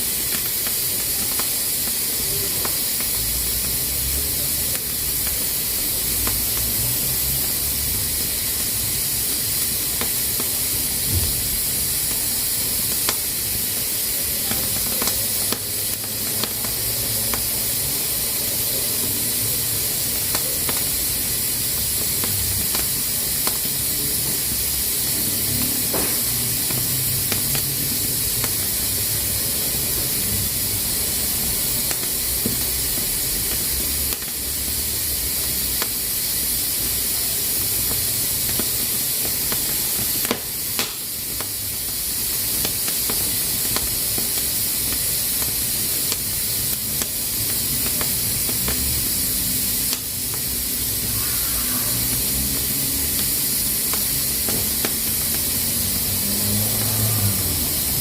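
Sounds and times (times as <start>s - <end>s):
pressure cooker venting steam: 0.0s - 58.0s.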